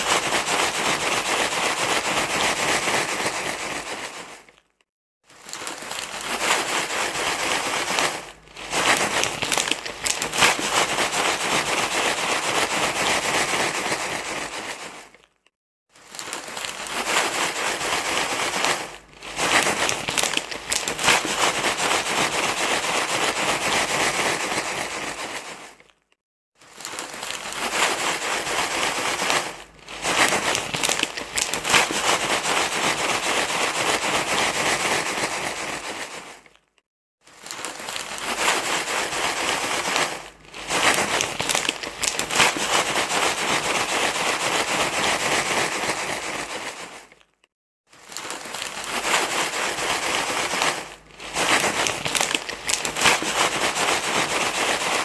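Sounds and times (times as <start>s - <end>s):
crinkly rustling material: 0.0s - 55.0s.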